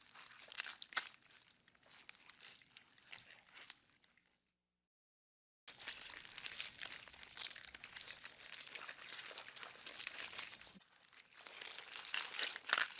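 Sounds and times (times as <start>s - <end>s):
crinkly scratching and rustling: 0.0s - 3.8s, 5.7s - 12.9s.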